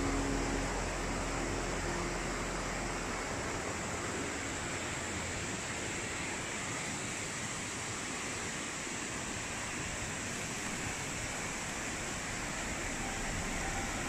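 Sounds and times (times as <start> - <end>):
rocky stream rushing: 0.0 - 14.0.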